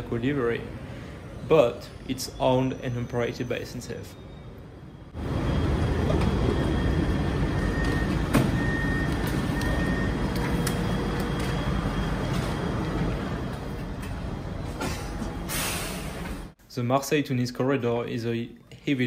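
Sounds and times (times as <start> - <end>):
electric train low rumble: 0.0 - 16.6.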